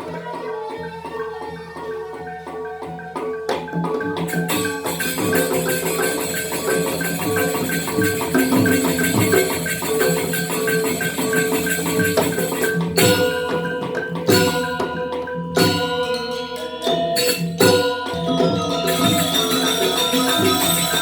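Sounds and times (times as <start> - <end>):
gamelan metallophone music: 1.8 - 21.0.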